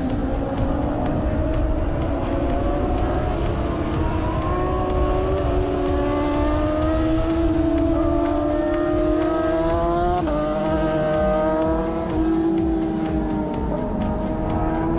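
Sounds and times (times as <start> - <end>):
racing motorcycle engine: 0.0 - 14.9.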